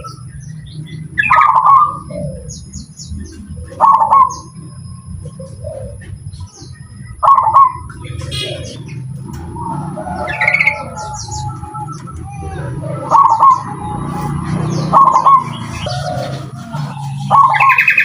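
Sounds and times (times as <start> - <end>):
doves cooing: 0.0 - 18.0
small birds chirping: 0.0 - 18.0
low background murmur: 2.1 - 18.0.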